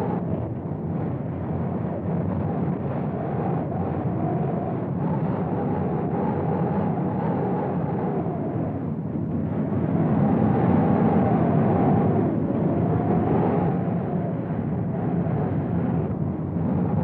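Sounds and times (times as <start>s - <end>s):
strong gusting wind: 0.0s - 17.0s.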